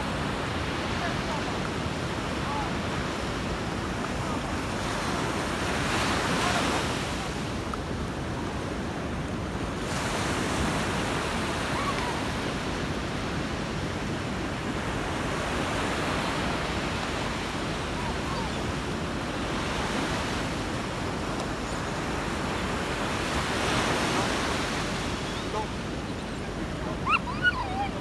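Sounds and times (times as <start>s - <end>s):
waves breaking on beach: 0.0s - 28.0s.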